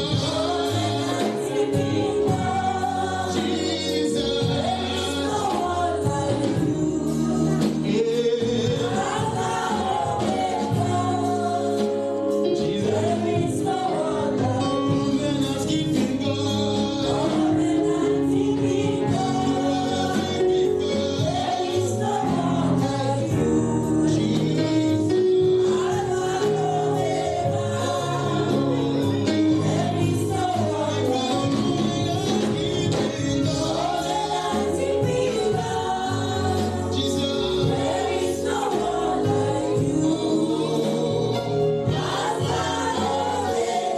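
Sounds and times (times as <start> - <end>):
group singing gospel: 0.0 - 43.9
sustained instrumental chords: 0.0 - 43.9.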